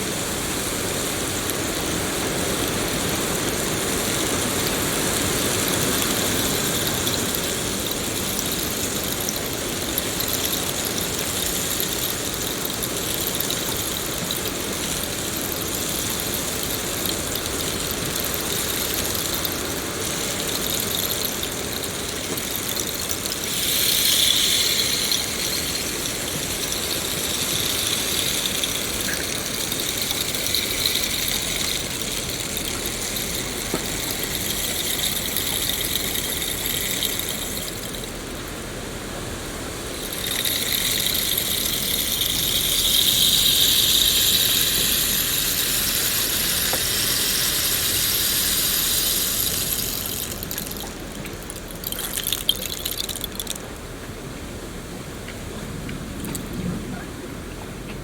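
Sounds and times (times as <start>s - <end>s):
steady rain falling: 0.0s - 54.4s.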